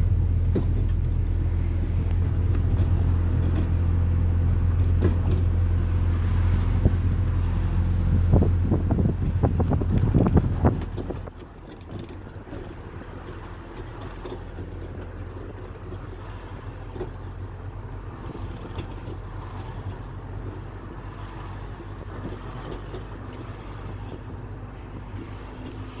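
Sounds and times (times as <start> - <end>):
car engine and road noise: 0.0 - 26.0
suspension knocks and rattles: 0.0 - 26.0.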